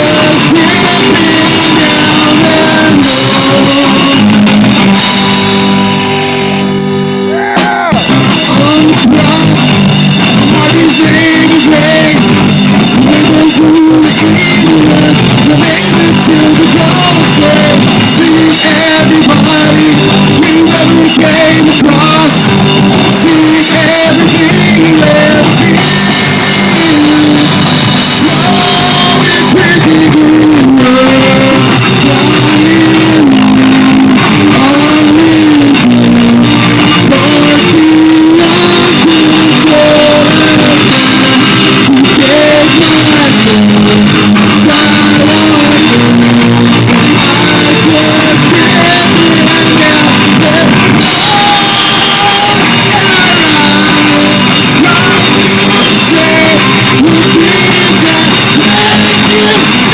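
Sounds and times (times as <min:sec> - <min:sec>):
distorted electric guitars: 0:00.0 - 0:59.9
drum kit: 0:00.0 - 0:59.9
rock vocals: 0:00.0 - 0:59.9.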